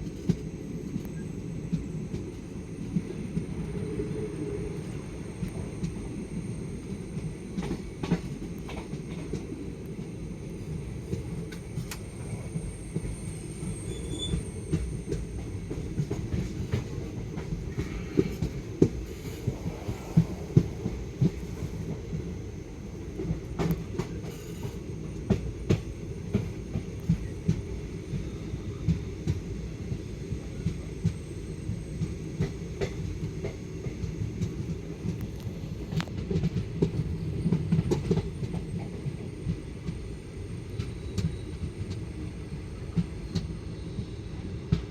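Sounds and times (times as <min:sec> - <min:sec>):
train rumbling on track: 0:00.0 - 0:44.9.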